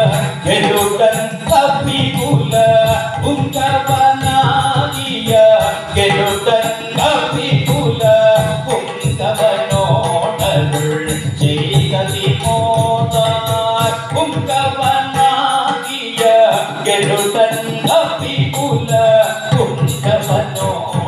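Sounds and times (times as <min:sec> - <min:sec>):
drum beating: 0:00.0 - 0:21.0
hand cymbals clashing: 0:00.0 - 0:21.0
person singing: 0:00.0 - 0:21.0.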